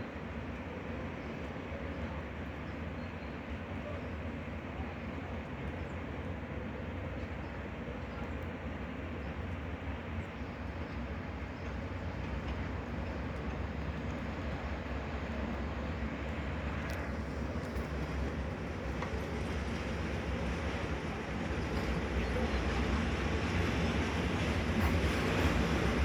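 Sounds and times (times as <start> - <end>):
train wheels rumbling on rails: 3.6 - 26.0.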